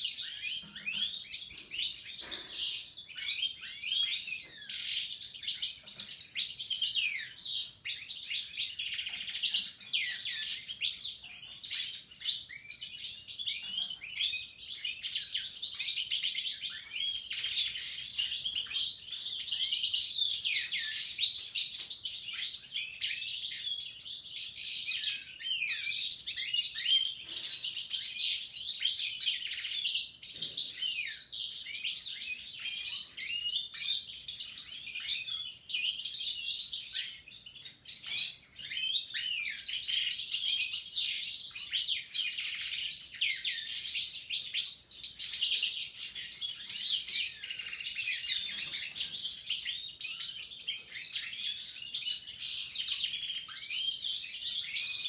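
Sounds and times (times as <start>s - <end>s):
songbirds twittering and warbling: 0.0s - 55.0s.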